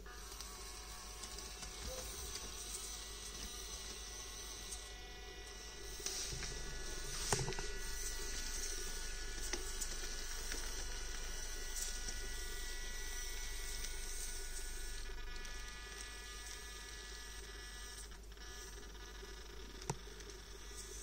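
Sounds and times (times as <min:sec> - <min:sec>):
small gear motor whining: 0:00.0 - 0:21.0.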